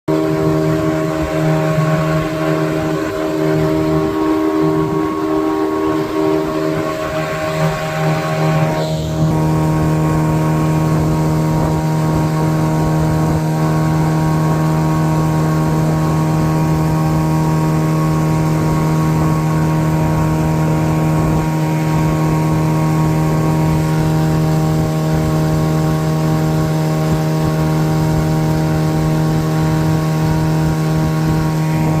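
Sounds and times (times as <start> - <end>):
loud mechanical hum: 0.1 - 32.0.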